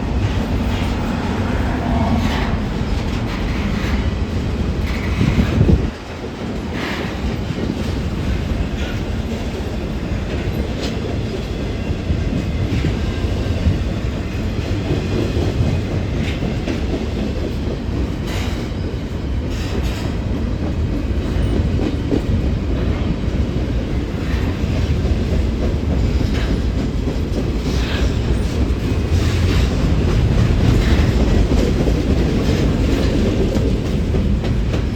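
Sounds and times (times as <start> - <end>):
freight train cars rumbling: 0.0 - 34.9.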